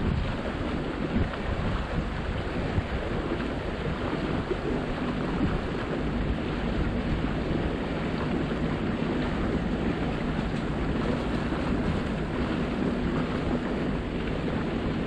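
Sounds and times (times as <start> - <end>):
motorboat running: 0.0 - 15.0
water rushing past hull: 0.0 - 15.0
wind buffeting microphone: 0.0 - 15.0.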